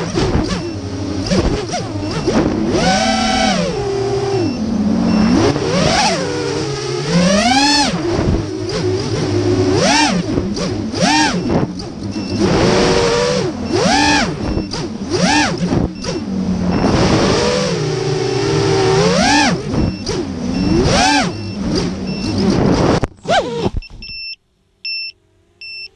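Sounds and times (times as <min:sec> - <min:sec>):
drone motors whining: 0:00.0 - 0:24.3.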